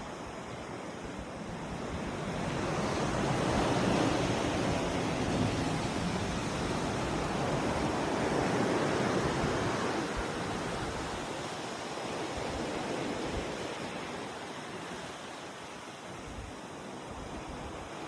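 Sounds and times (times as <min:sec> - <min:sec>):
ocean waves washing: 0:00.0 - 0:18.0.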